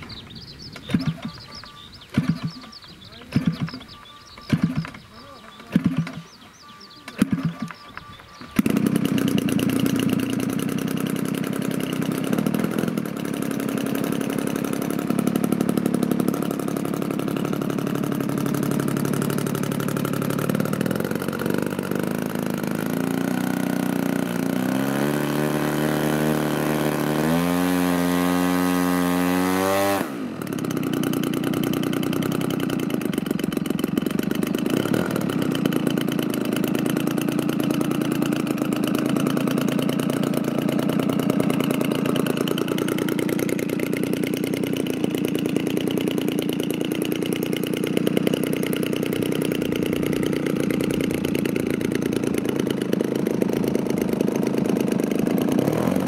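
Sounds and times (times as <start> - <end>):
model airplane engine revving: 0.7 - 56.0.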